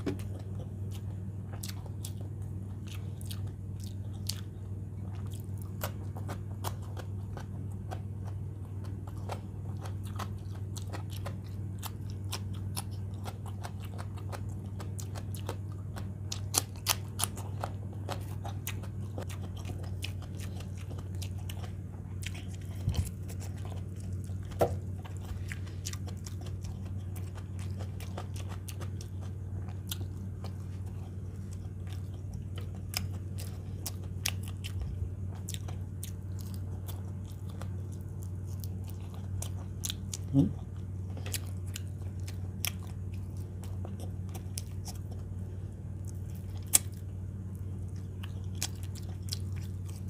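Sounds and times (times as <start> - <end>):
chewing and crunching food: 0.0 - 50.0
steady low hum: 0.0 - 50.0.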